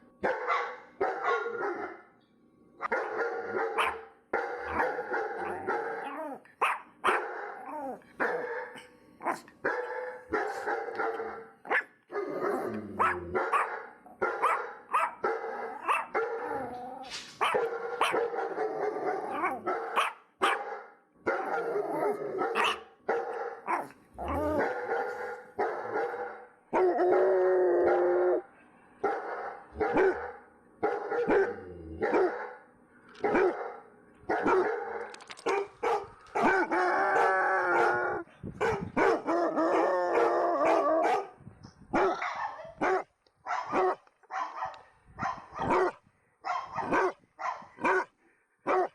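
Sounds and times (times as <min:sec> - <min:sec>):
dog barking: 0:00.2 - 0:02.0, 0:02.8 - 0:16.7, 0:17.4 - 0:27.0, 0:29.0 - 0:32.6, 0:33.2 - 0:48.1, 0:48.7 - 0:48.9.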